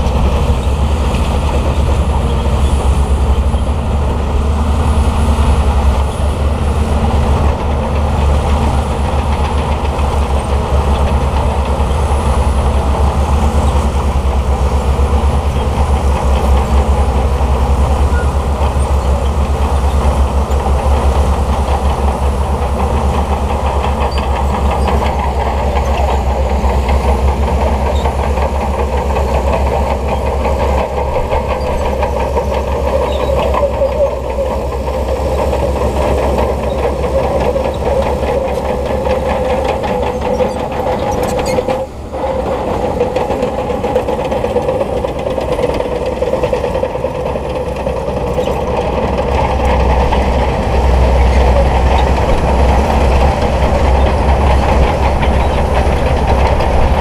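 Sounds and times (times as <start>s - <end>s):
bulldozer diesel engine rumbling: 0.0s - 57.0s
steel tracks clattering: 0.0s - 57.0s.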